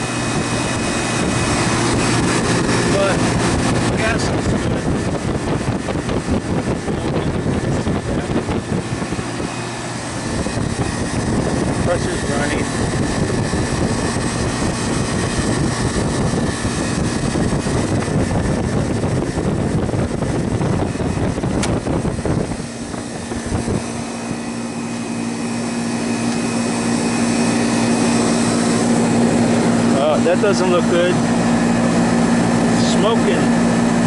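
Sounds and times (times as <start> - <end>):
compressor unit humming: 0.0 - 34.0
condenser fan airflow rushing: 0.0 - 34.0.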